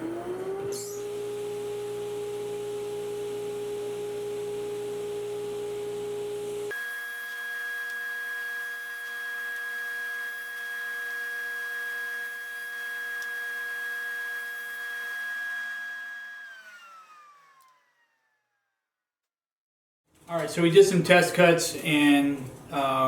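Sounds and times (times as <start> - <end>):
table saw whining: 0.0 - 18.6.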